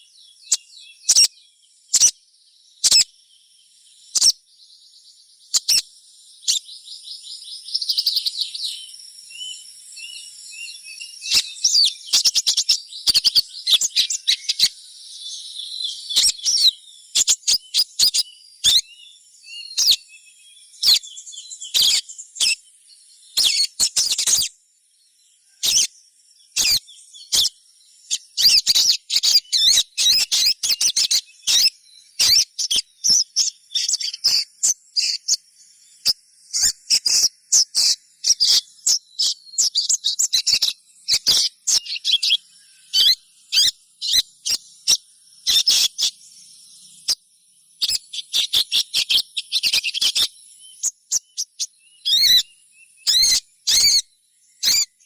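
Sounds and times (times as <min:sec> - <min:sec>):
young sunbird cheeping: 0:00.0 - 0:55.0.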